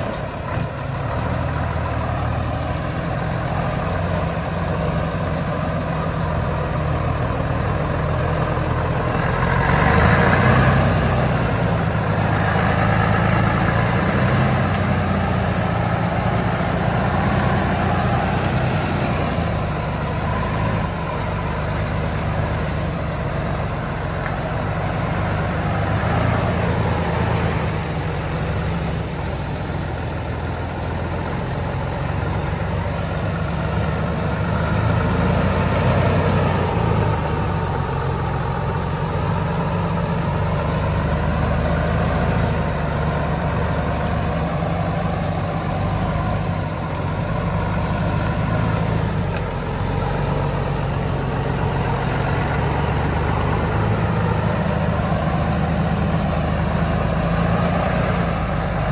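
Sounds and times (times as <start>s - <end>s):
heavy truck engine running: 0.0s - 58.9s.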